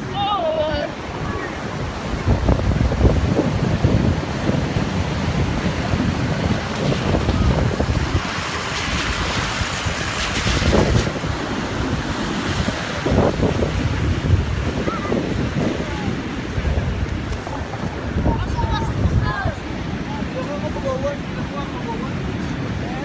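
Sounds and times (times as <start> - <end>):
ocean surf rushing: 0.0 - 23.0
wind buffeting microphone: 0.0 - 23.0.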